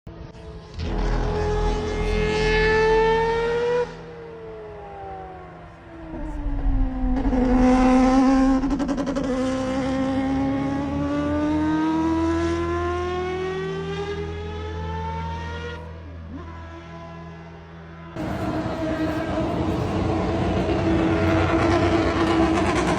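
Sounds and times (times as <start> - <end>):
racing engine revving: 0.5 - 16.8, 18.2 - 22.9.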